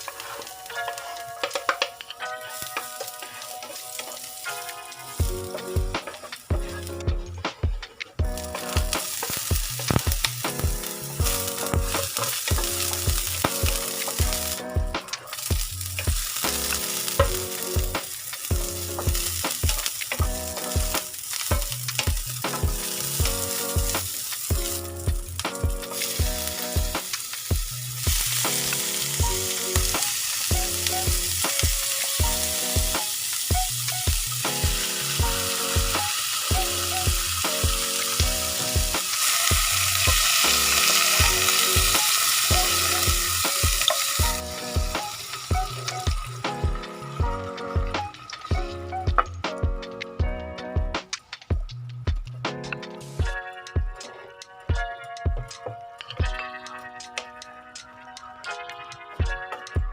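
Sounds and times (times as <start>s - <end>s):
stirring in a pan: 0.0s - 50.1s
food sizzling in a pan: 0.0s - 51.8s
background music with a beat: 0.0s - 59.9s.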